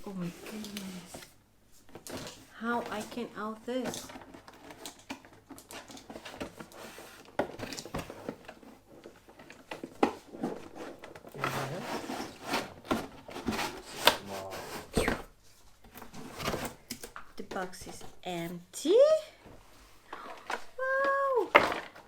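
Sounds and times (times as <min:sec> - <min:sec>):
packaging rustling and scraping: 0:00.1 - 0:18.2.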